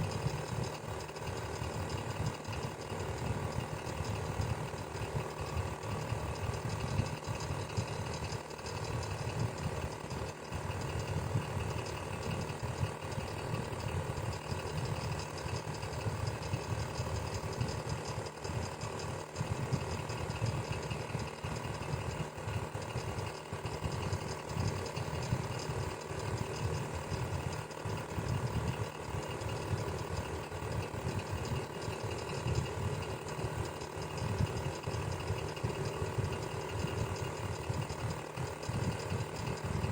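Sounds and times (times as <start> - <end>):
electric fan whirring: 0.0 - 39.9.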